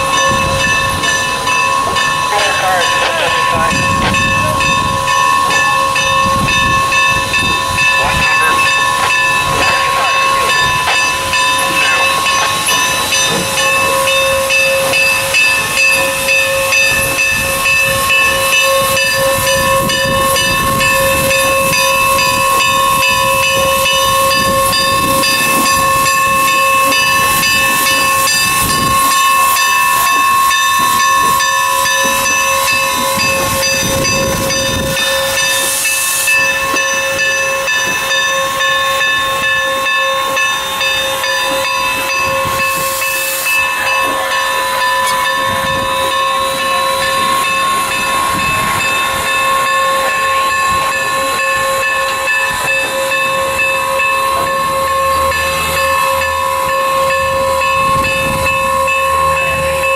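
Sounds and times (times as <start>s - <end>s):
steam locomotive hissing: 0.0s - 59.9s.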